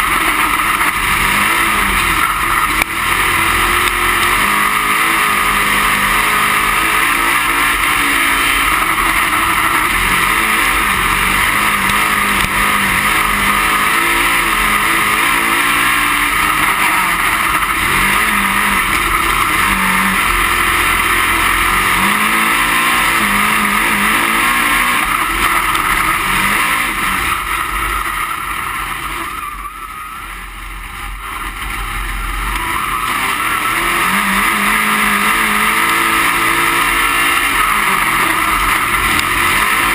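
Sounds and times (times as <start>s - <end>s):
race car engine: 0.0s - 39.9s
wind and road noise: 0.0s - 39.9s.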